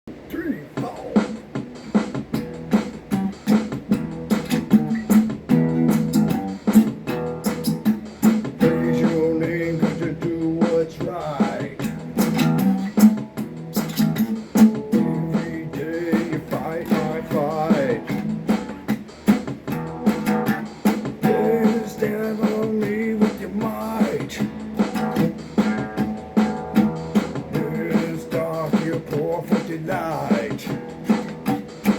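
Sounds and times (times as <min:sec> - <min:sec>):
guitar music with steady beat: 0:00.1 - 0:31.9.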